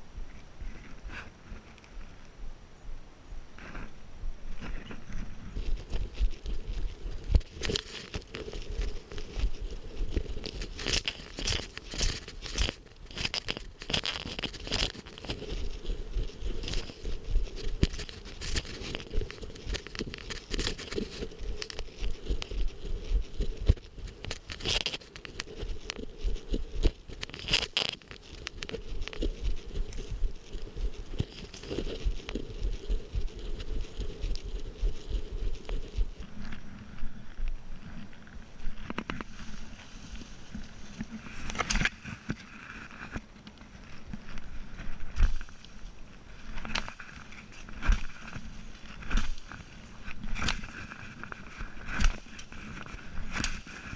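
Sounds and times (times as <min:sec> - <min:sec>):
plants rustling against walker: 0:03.6 - 0:53.9
footsteps on dirt trail: 0:04.5 - 0:42.4, 0:43.8 - 0:53.9.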